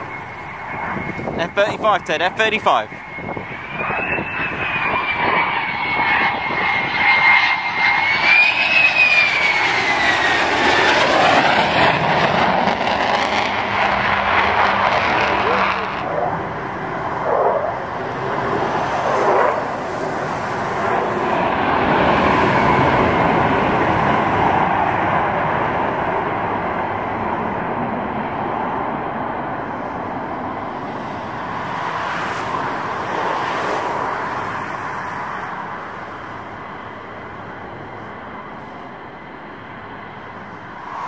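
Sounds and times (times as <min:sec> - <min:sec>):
fighter jet engines passing: 0:00.0 - 0:41.0.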